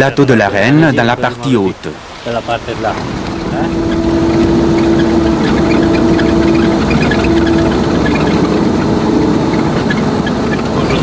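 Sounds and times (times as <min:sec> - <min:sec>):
heavy vehicle engine rumbling: 0:00.9 - 0:11.0.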